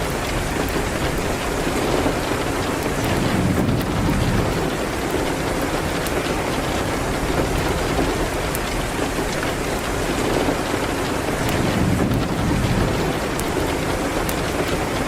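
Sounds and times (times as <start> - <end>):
steady rain hiss: 0.0 - 15.0
wood fire crackles: 0.0 - 15.0.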